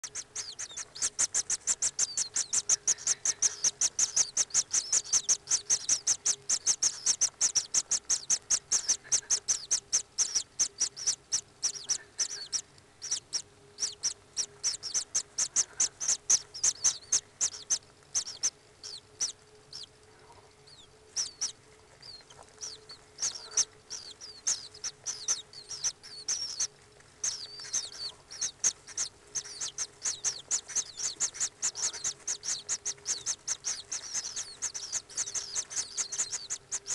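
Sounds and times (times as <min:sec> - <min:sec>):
kingfisher chicks calling: 0:00.0 - 0:36.9.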